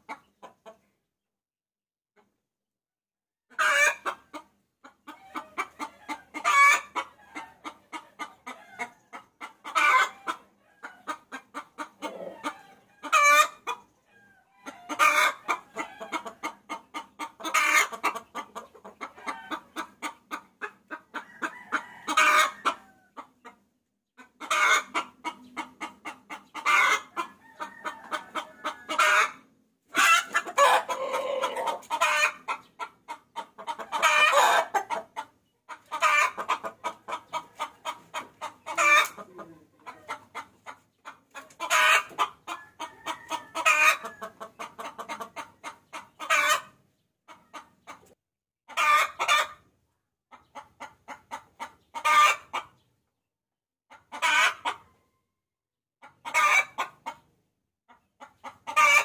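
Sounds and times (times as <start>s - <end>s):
hen cackling and clucking: 0.0s - 1.0s, 3.5s - 53.0s, 53.9s - 55.2s, 56.0s - 59.0s.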